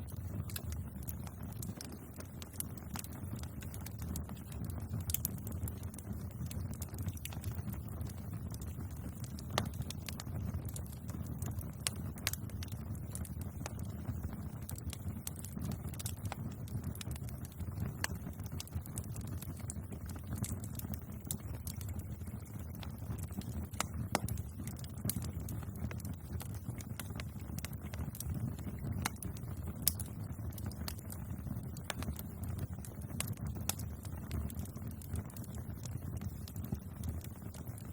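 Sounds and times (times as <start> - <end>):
fire crackling and popping: 0.0 - 37.9
low rumble of flames: 0.0 - 37.9.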